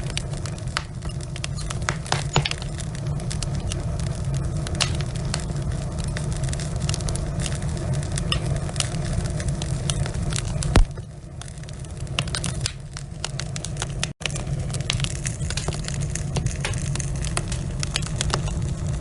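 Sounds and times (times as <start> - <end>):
fire crackling and popping: 0.0 - 19.0
low fire rumble: 0.0 - 19.0.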